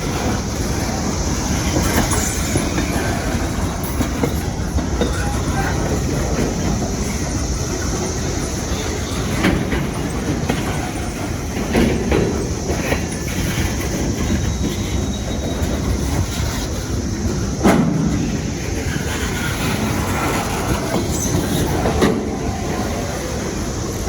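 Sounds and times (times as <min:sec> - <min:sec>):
cicadas chorus: 0:00.0 - 0:24.0
freight train rolling past: 0:00.0 - 0:24.0
wheels clacking over rail joints: 0:00.0 - 0:24.0.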